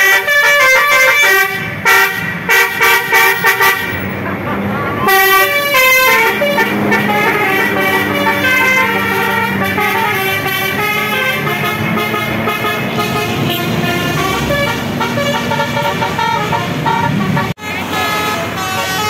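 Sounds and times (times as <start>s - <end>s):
multi-tone bus horns playing tune: 0.0s - 19.0s
engine hum: 0.3s - 19.0s.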